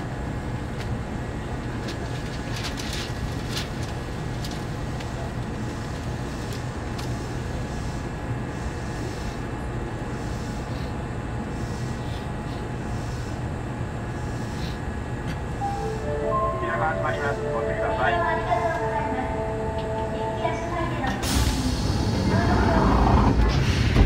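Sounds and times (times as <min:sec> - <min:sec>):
subway train humming: 0:00.0 - 0:24.0.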